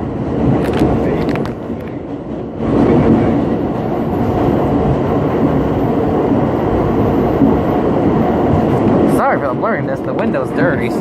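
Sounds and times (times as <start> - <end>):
subway car wheels and motors rumbling: 0.0 - 11.0.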